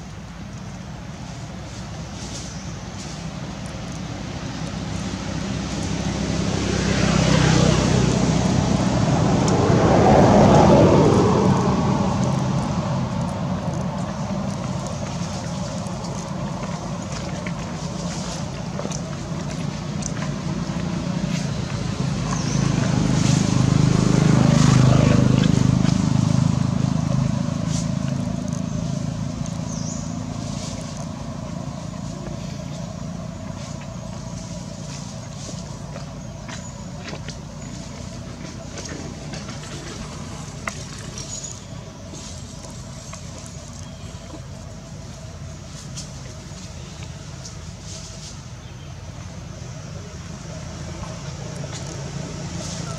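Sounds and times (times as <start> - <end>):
vehicle engine passing by: 1.6 - 52.9.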